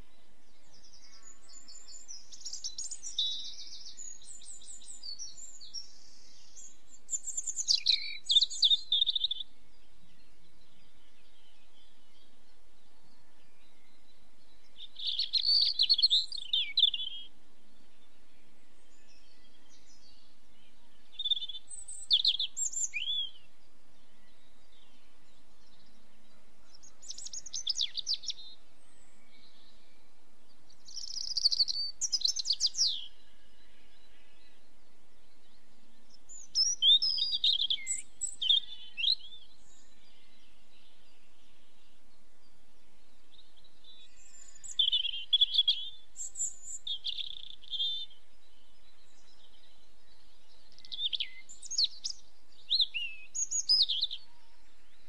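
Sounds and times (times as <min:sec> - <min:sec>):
faint background hiss: 0:00.0 - 0:55.0
songbird chirping and trilling: 0:00.0 - 0:55.0.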